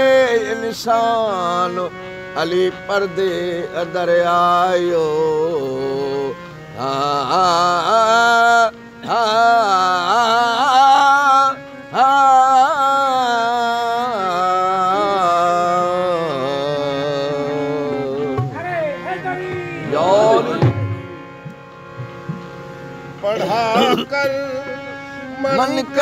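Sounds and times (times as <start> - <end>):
man singing: 0.0 - 21.3, 23.2 - 26.0
harmonium: 0.0 - 26.0.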